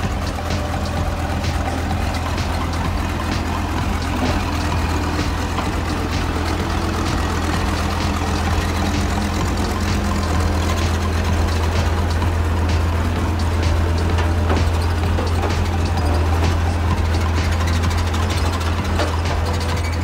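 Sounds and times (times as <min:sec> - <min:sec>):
road roller diesel engine humming: 0:00.0 - 0:20.0.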